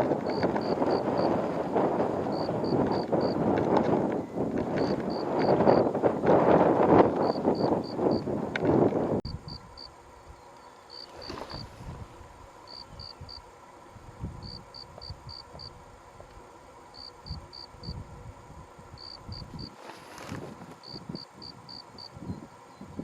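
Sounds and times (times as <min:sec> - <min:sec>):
cricket chirping: 0:00.0 - 0:06.0, 0:06.9 - 0:08.3, 0:09.3 - 0:23.0.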